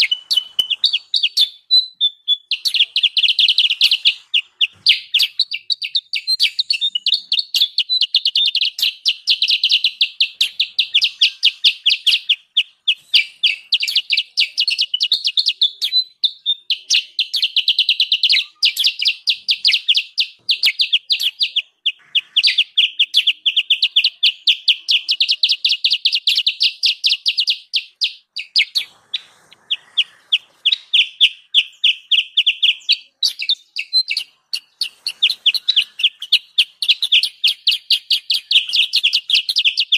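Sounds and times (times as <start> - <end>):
songbirds chattering: 0.0 - 39.9.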